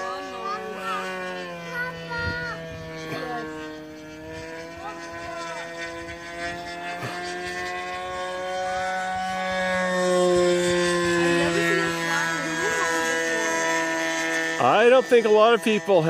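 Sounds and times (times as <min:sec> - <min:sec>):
model aircraft motor drone: 0:00.0 - 0:16.0.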